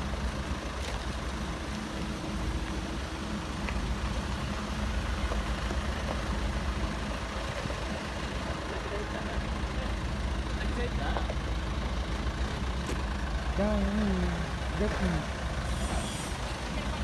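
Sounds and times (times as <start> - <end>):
heavy machine engine rumbling: 0.0 - 17.0.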